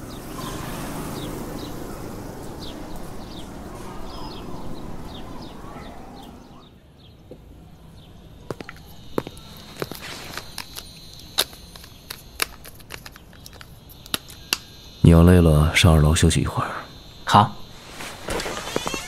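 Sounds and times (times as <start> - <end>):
steady hiss: 0.0 - 6.4, 8.2 - 19.0
birds chirping: 0.0 - 19.0.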